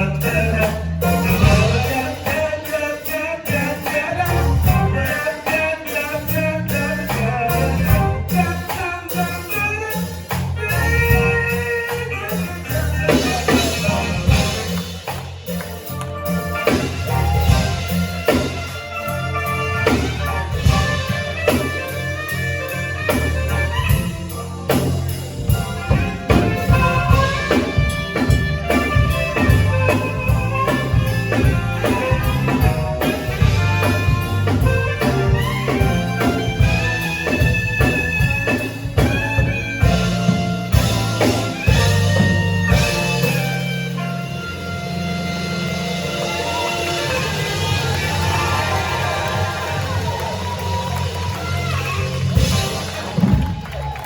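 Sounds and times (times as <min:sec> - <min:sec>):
jazzy instrumental band music: 0:00.0 - 0:54.0.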